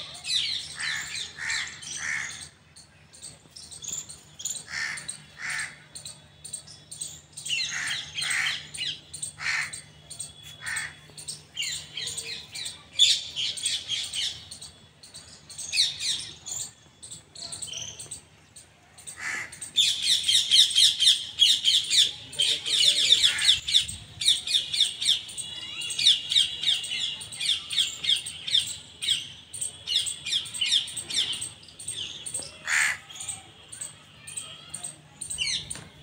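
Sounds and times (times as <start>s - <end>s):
birds calling and squawking: 0.0s - 36.0s.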